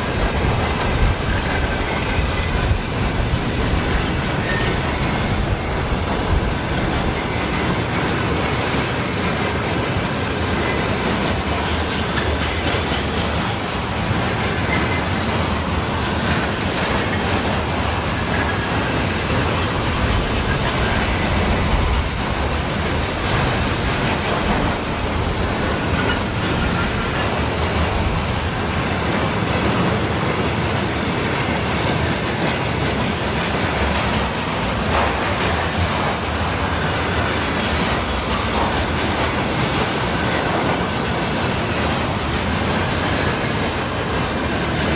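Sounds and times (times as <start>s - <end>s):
train wheels on rails: 0.0s - 44.9s.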